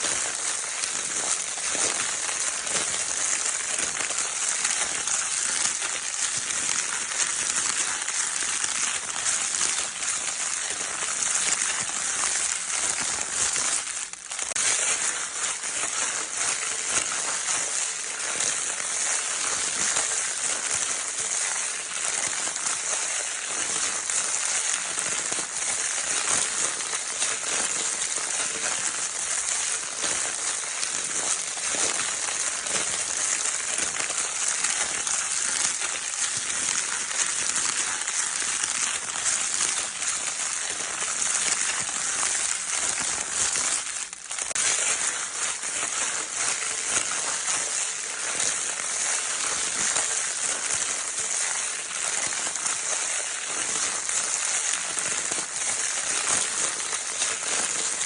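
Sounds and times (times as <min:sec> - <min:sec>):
crinkle paper toy crackling: 0:00.0 - 0:58.0.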